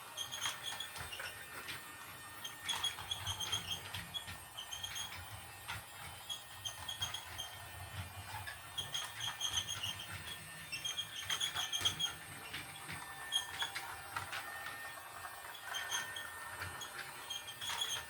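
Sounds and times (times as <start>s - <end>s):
toy train high chirps: 0.0s - 18.0s.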